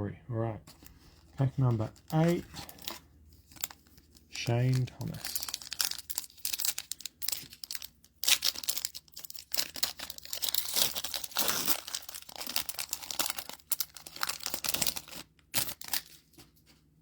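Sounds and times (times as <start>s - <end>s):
plastic wrapper tearing and crinkling: 0.8s - 16.7s.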